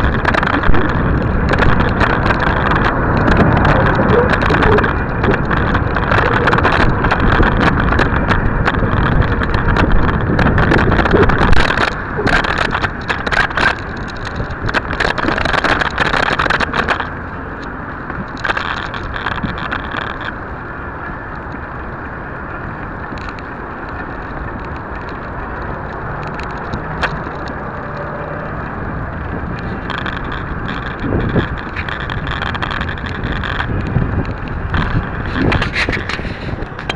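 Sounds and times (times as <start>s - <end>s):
rattling clicks and knocks: 0.0s - 20.4s, 23.0s - 36.9s
wind and road noise rumble: 0.0s - 36.9s.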